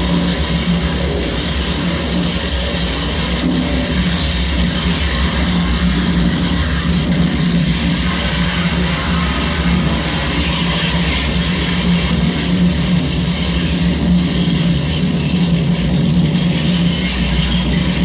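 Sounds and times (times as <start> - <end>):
electronic noise hiss: 0.0 - 18.0
low hum: 0.0 - 18.0.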